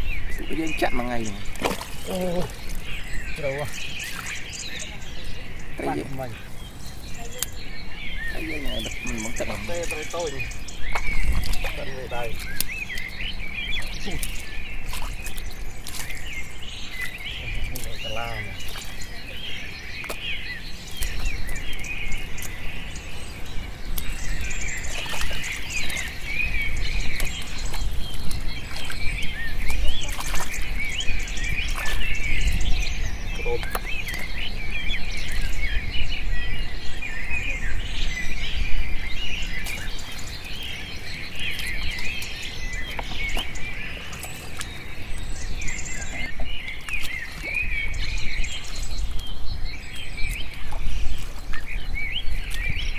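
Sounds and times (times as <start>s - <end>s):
birds chirping and calling: 0.0s - 52.9s.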